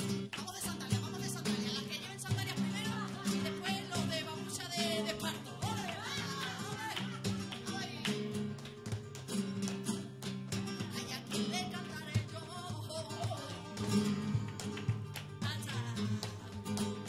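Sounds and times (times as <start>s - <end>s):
flamenco guitar strumming: 0.0s - 17.0s.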